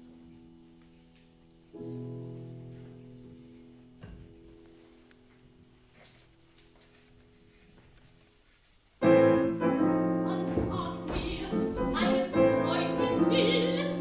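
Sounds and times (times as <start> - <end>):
piano: 0.0 - 14.0.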